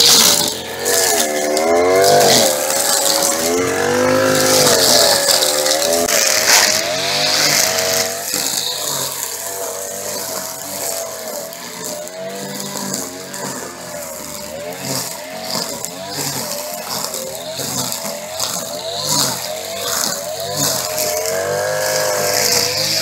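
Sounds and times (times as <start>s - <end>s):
string trimmer engine revving: 0.0s - 23.0s.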